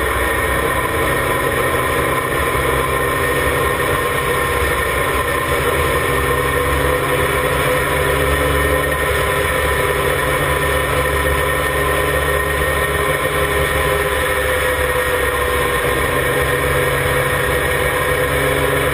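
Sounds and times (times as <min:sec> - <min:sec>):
race car engine at steady revs: 0:00.0 - 0:18.9
wind and road noise: 0:00.0 - 0:18.9.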